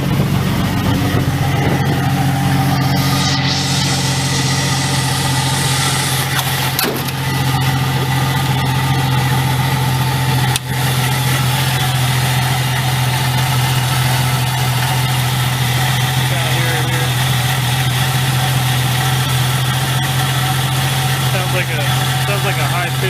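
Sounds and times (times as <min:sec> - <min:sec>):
car engine idling: 0:00.0 - 0:23.0
high-pitched alternator whine: 0:00.0 - 0:23.0.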